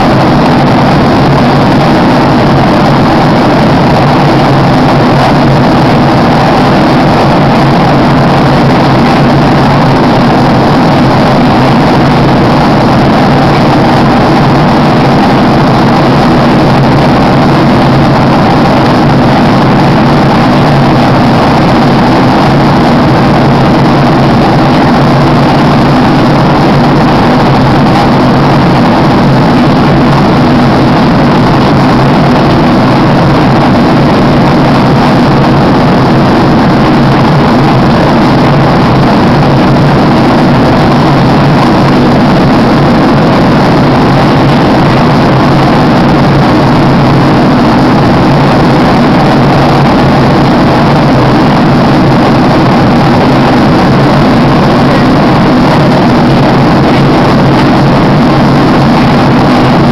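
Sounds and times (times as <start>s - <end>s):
airliner cabin engine roar: 0.0s - 59.9s.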